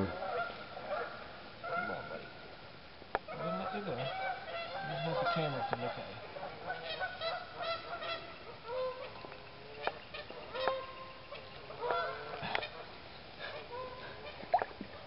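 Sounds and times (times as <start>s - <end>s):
geese honking: 0.0s - 2.3s, 3.3s - 15.0s
creek water rushing: 0.0s - 15.0s.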